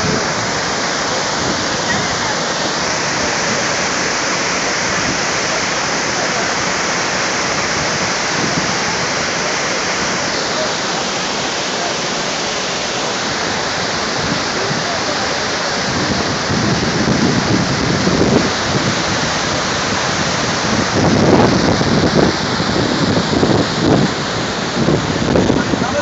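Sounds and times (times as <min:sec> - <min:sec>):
low water surges: 0:00.0 - 0:26.0
waterfall rushing: 0:00.0 - 0:26.0.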